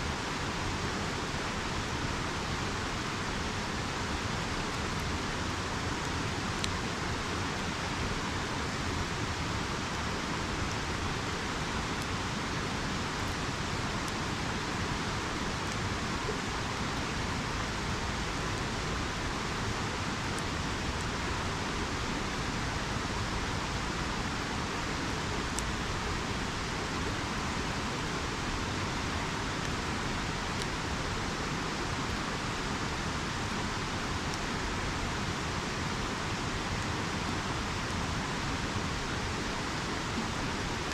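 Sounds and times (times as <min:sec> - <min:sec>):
campfire crackling: 0:00.0 - 0:40.9
river flowing water: 0:00.0 - 0:40.9.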